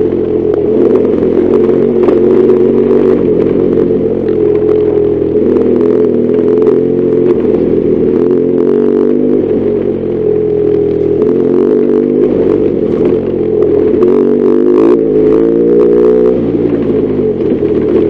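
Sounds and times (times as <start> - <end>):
clatter: 0.0 - 18.0
motorcycle engine running: 0.0 - 18.0.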